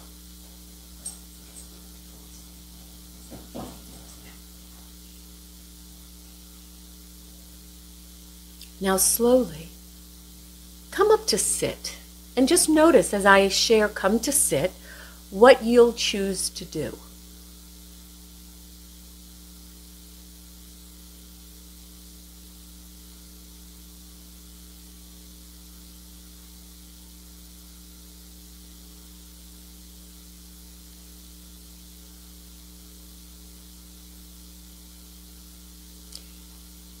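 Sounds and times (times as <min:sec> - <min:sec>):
low electrical hum with hiss: 0:00.0 - 0:37.0.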